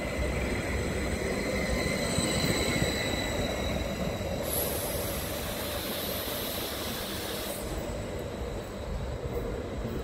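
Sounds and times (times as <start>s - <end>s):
electric train running noise: 0.0s - 10.0s.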